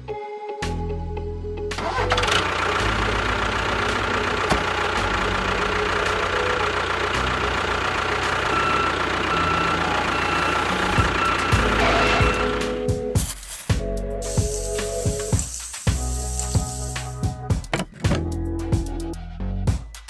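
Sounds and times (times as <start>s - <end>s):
tractor engine idling: 1.7s - 19.0s.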